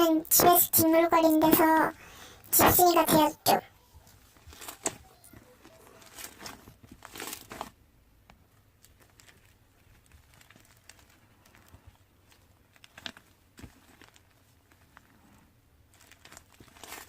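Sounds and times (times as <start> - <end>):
rustling and crinkling handling: 2.9 - 17.0.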